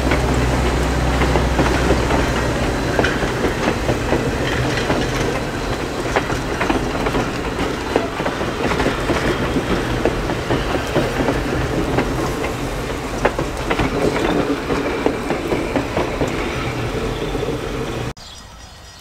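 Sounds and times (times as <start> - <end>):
wheels clicking over track: 0.0 - 18.1
train rumbling along rails: 0.0 - 18.2.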